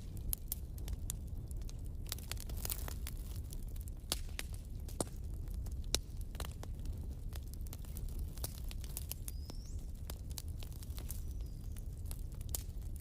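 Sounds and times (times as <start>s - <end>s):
burning logs popping: 0.0s - 13.0s
low rumble of flames: 0.0s - 13.0s
wood fire crackling: 0.0s - 13.0s.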